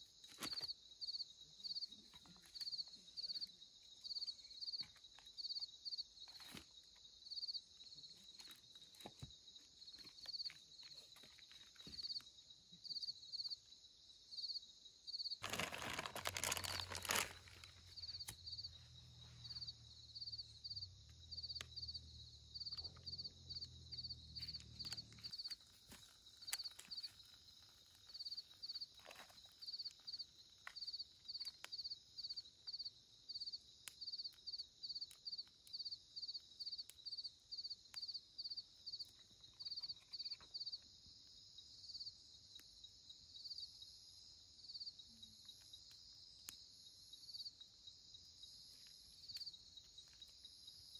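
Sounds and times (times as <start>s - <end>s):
crickets chirping: 0.0s - 50.9s.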